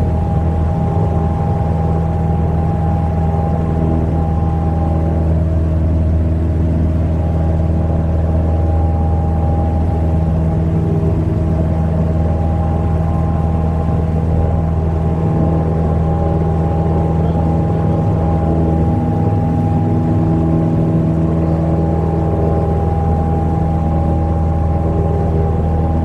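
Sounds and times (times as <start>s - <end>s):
small plane engine droning in cabin: 0.0s - 26.0s.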